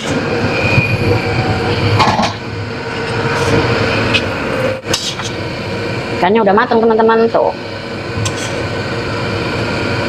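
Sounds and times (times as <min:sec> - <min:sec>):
gas burner rumbling: 0:00.0 - 0:10.0.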